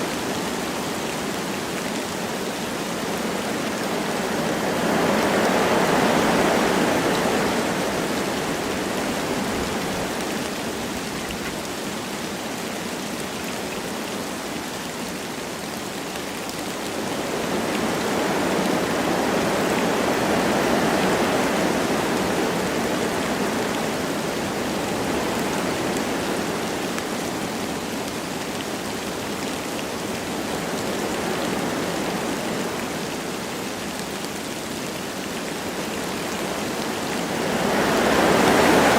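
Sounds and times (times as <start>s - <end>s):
light rain falling: 0.0s - 38.9s
wind through trees: 0.0s - 38.9s.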